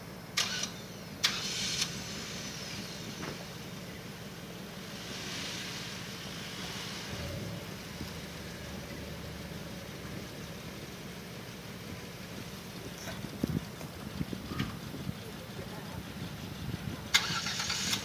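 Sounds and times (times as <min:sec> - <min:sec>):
engine running low: 0:00.0 - 0:18.0.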